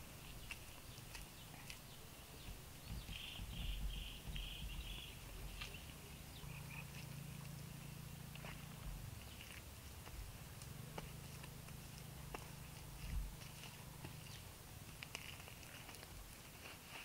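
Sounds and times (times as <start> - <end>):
wet mud pats and squelches: 0.0 - 17.0.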